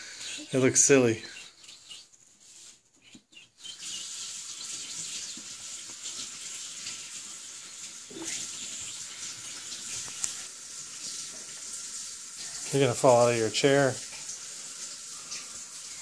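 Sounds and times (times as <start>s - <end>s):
running water hiss: 0.0s - 1.4s, 3.6s - 16.0s.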